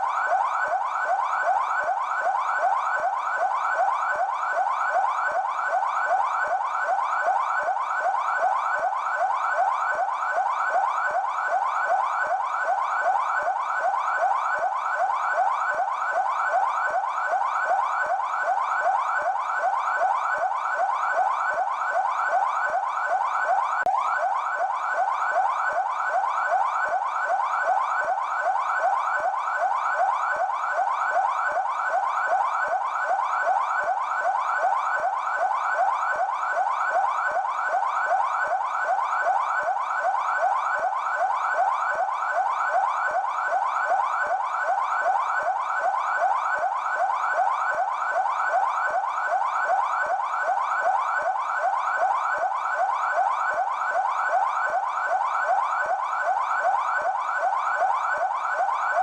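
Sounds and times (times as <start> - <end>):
police siren yelp: 0.0 - 59.0.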